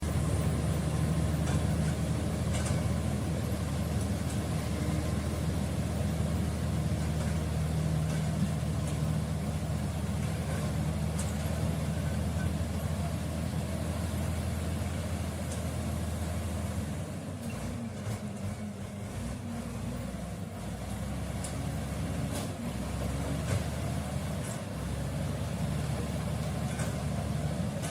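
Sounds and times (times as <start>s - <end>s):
bulldozer diesel engine drone: 0.0s - 27.9s.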